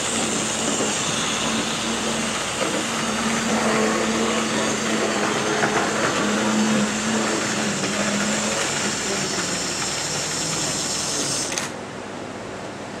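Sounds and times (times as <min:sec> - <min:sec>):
wheels rattling on track: 0:00.0 - 0:11.3
model train motor whirring: 0:00.0 - 0:11.8.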